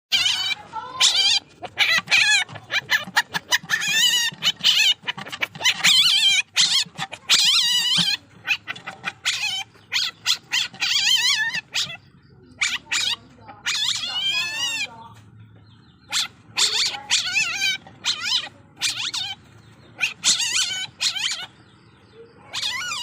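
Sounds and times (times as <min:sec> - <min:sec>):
civet kitten crying: 0:00.1 - 0:12.0, 0:12.6 - 0:14.9, 0:16.1 - 0:19.4, 0:20.0 - 0:21.5, 0:22.5 - 0:23.0.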